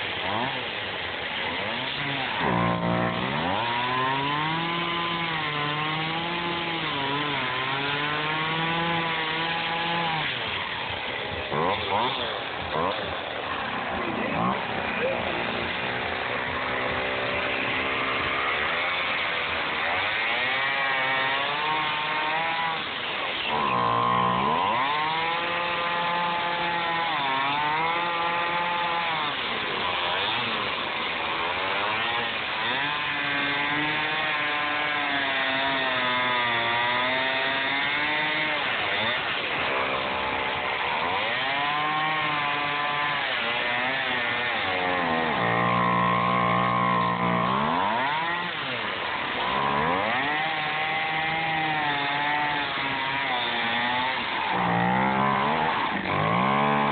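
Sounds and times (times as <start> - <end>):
chainsaw cutting foam: 0.0 - 56.9.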